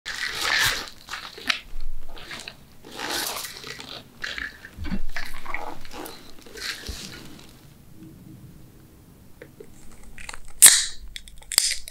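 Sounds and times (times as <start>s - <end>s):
crunching and chewing: 0.1s - 7.6s, 9.7s - 11.9s.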